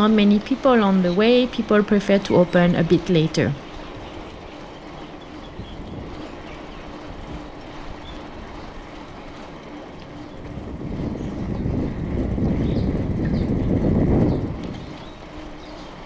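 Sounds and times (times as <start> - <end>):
bicycle tyre rumble: 0.0 - 16.0
wind rush on microphone: 0.0 - 16.0.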